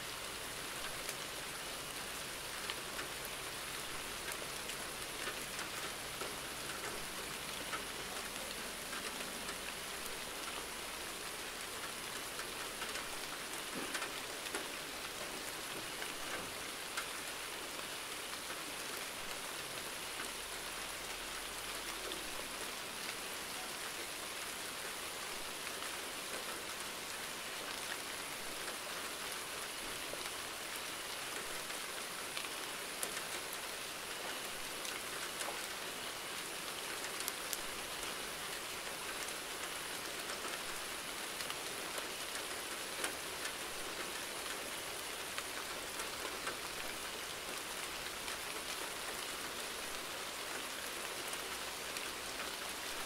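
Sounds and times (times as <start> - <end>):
rain hiss: 0.0 - 53.0
raindrops pattering: 0.0 - 53.0.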